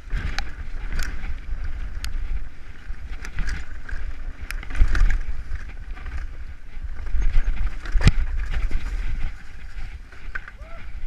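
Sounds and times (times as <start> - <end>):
bike clattering over bumps: 0.0 - 11.0
wind on microphone: 0.0 - 11.0.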